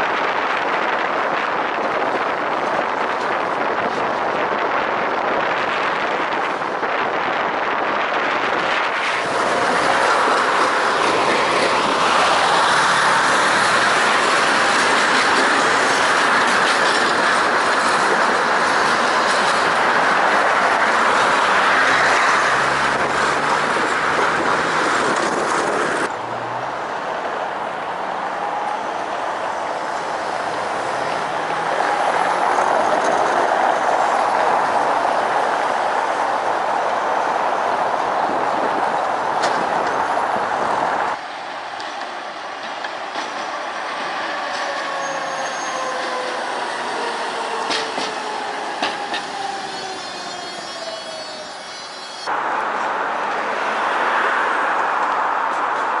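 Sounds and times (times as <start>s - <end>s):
tram wheels on rails: 0.0s - 56.0s.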